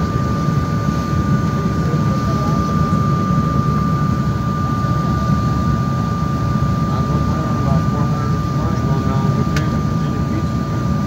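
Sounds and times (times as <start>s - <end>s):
high engine whine: 0.0s - 11.0s
jet engine low rumble: 0.0s - 11.0s.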